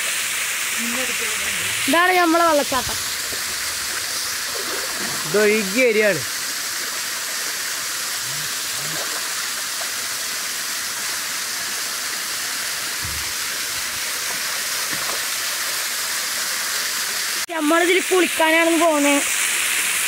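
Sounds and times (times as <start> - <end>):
small waterfall rushing: 0.0 - 20.0.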